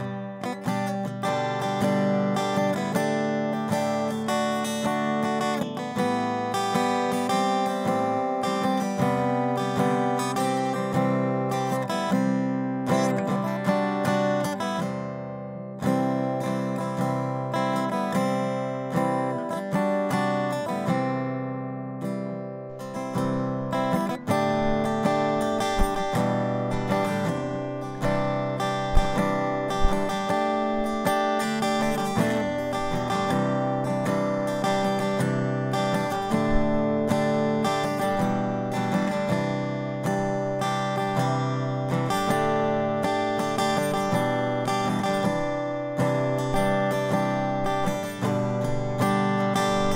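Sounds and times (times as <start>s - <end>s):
acoustic guitar instrumental: 0.0s - 49.9s.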